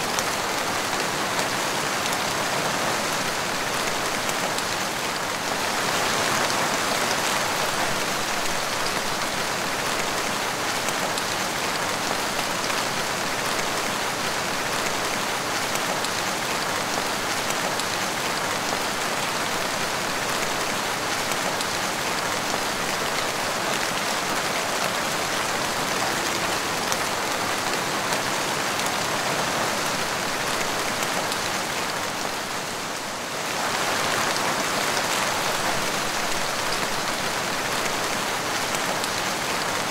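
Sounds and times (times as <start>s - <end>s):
rain splashing on tiled floor: 0.0s - 39.9s.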